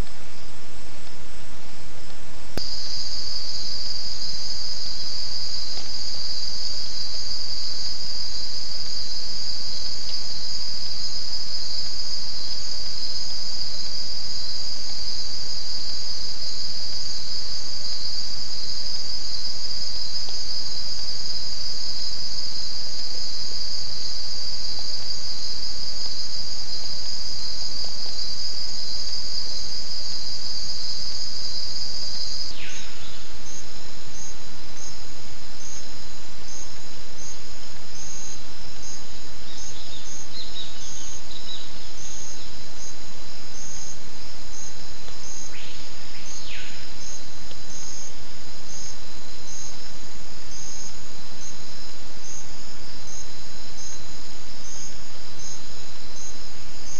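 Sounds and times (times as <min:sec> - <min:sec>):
insects buzzing and chirping: 0:00.0 - 0:56.9.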